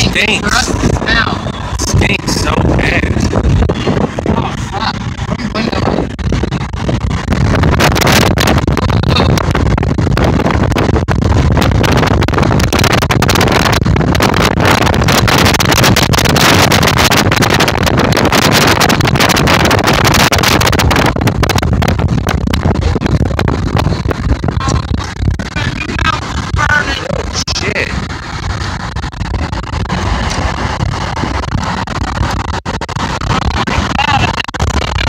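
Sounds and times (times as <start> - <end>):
wind and road noise: 0.0 - 35.0
wind buffeting microphone: 0.0 - 35.0.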